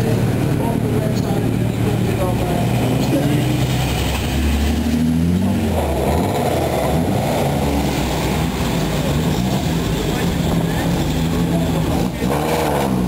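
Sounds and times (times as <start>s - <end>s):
car engine revving: 0.0s - 13.0s
car engines driving past slowly: 0.0s - 13.0s.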